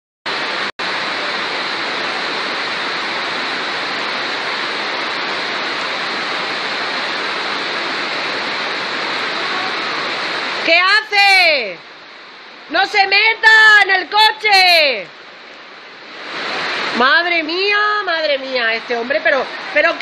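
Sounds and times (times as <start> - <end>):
floodwater rushing: 0.3 - 20.0.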